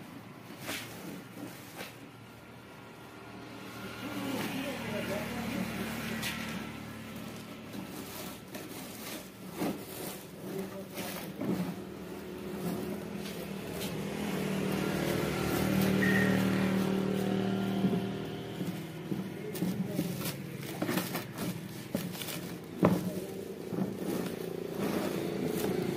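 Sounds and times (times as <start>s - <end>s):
vehicle engine running: 0.9s - 25.9s.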